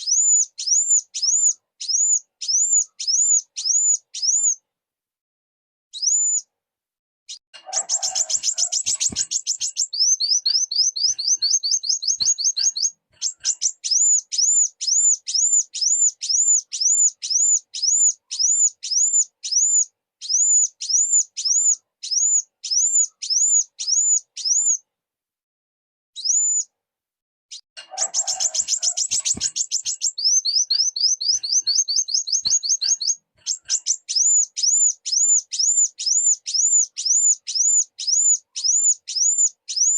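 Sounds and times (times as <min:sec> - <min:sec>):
sunbird singing: 0:00.0 - 0:04.6, 0:07.3 - 0:24.8, 0:27.5 - 0:39.9.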